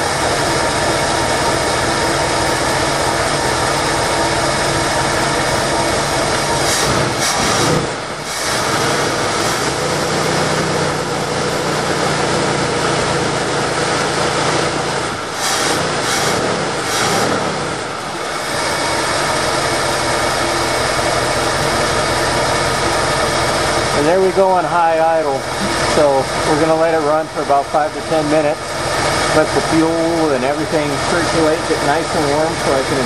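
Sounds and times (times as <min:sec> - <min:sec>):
engine running on high idle: 0:00.0 - 0:33.0.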